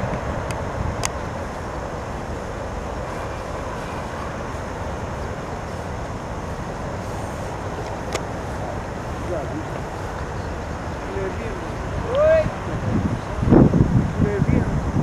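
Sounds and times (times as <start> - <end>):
water noise: 0.0 - 15.0
wind on microphone: 0.0 - 15.0.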